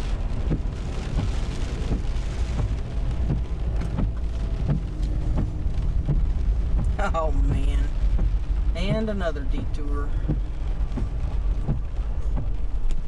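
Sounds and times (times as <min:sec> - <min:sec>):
low rumble: 0:00.0 - 0:13.0
rain on a truck: 0:00.0 - 0:13.0.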